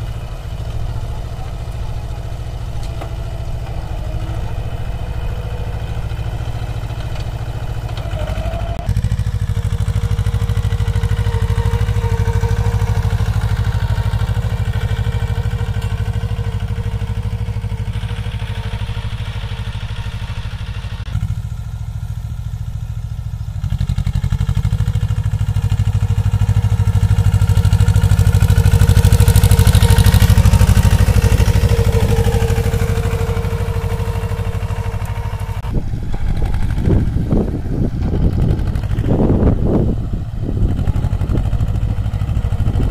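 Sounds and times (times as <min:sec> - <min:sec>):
tractor diesel engine: 0:00.0 - 0:42.9.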